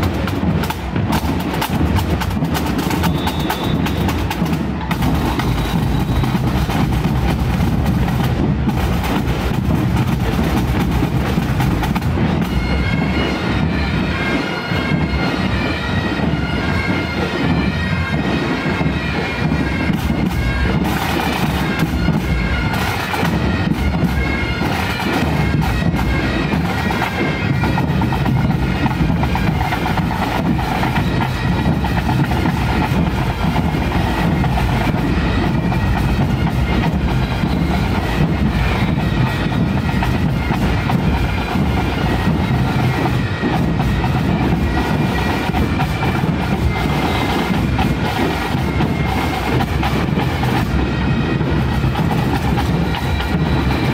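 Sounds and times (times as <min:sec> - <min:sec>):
bagpipes playing march: 0:00.0 - 0:53.9
drums beating: 0:00.0 - 0:53.9.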